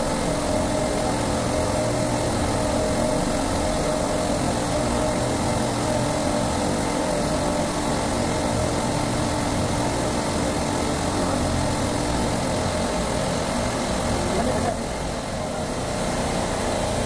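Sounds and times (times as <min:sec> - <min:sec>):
refrigeration compressors droning: 0:00.0 - 0:17.0.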